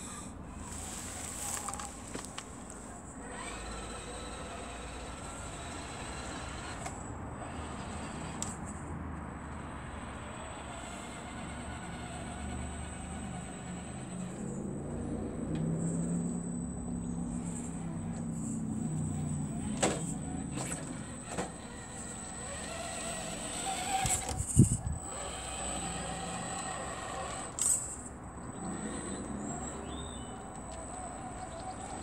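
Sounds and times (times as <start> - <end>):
toy truck motor whirring: 0.0 - 32.0.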